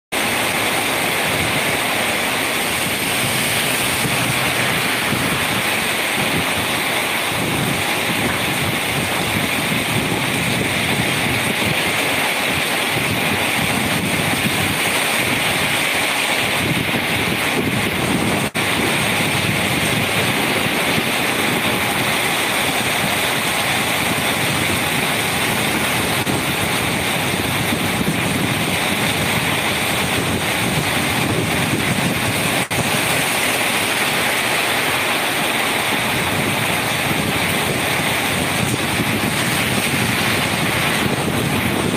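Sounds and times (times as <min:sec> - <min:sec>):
rain pouring: 0:00.1 - 0:41.9.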